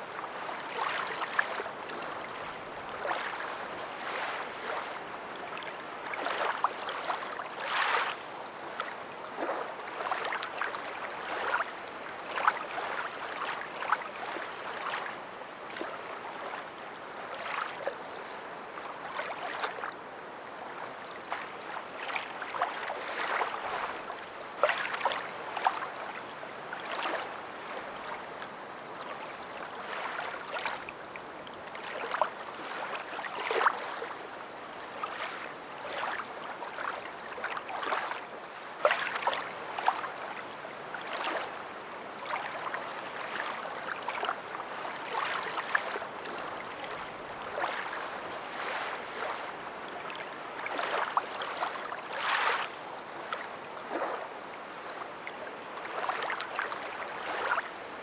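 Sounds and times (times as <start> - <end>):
water lapping and sloshing: 0.2 - 58.0.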